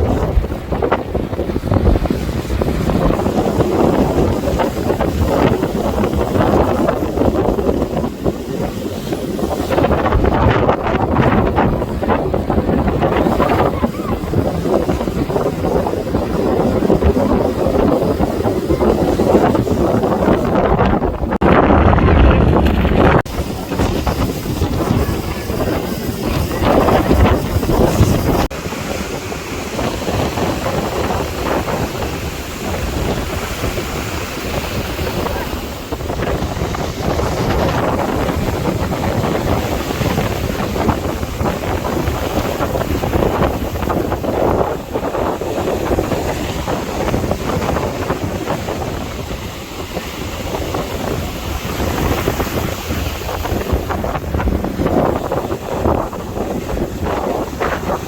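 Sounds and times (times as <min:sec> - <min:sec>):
sea waves washing: 0:00.0 - 0:58.0
wind buffeting microphone: 0:00.0 - 0:58.0.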